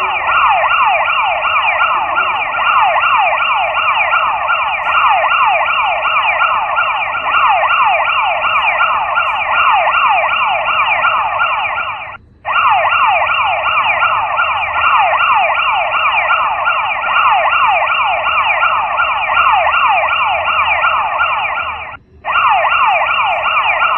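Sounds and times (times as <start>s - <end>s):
phone emergency alert tone: 0.0s - 23.9s.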